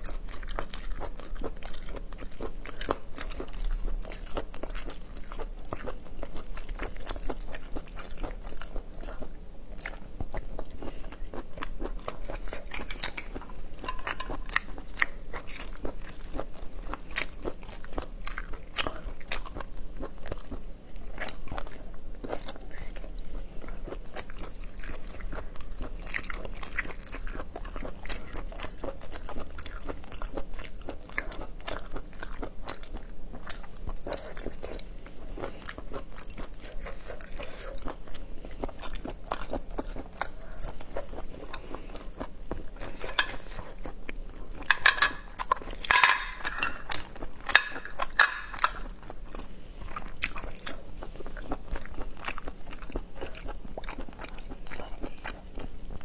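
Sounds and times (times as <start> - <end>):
close-miked chewing: 0.0 - 56.0.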